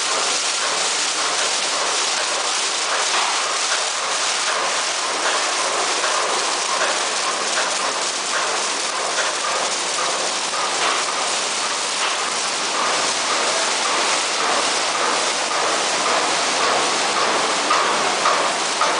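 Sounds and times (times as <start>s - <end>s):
car wash brushes and water spray: 0.0s - 18.9s.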